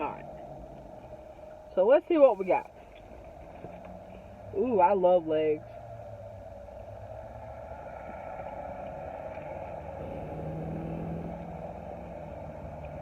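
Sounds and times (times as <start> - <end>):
car idling: 0.0 - 13.0
steady hum: 0.0 - 13.0.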